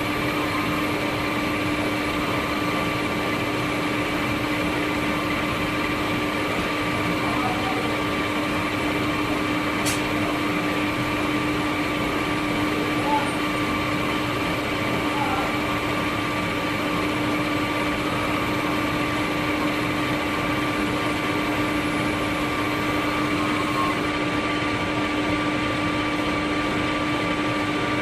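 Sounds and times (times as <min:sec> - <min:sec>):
lathe humming: 0:00.0 - 0:28.0.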